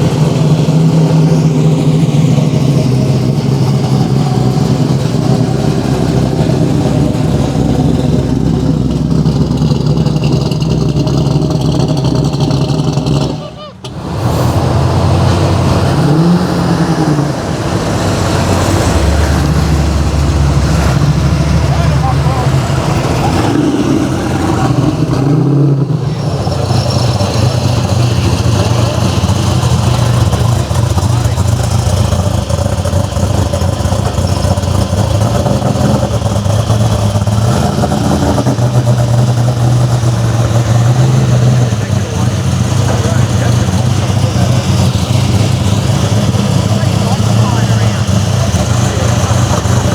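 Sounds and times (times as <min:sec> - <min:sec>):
car engine rumbling: 0:00.0 - 0:49.9.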